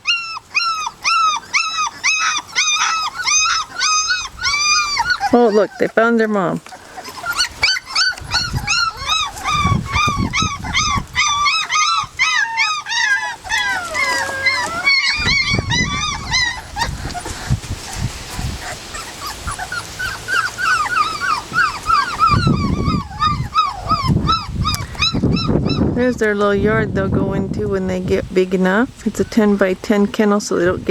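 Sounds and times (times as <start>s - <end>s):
puppy whining: 0.0s - 26.0s
puppies whimpering and squealing: 0.0s - 26.2s, 29.0s - 30.9s.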